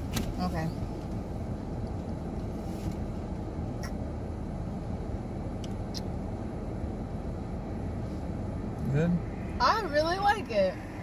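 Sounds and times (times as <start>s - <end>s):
low rumble in car cabin: 0.0s - 11.0s.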